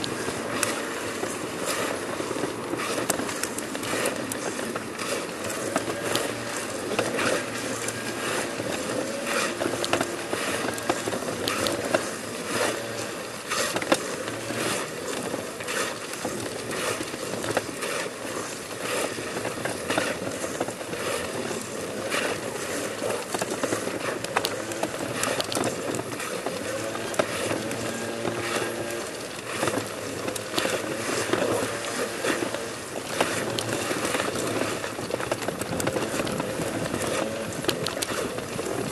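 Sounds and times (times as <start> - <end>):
clothing and shoes scraping on stone: 0.0 - 38.9.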